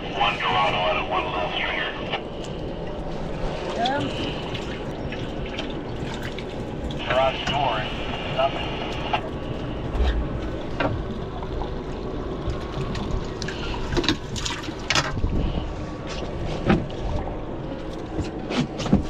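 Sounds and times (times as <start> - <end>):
water sloshing and trickling: 1.4 - 19.0.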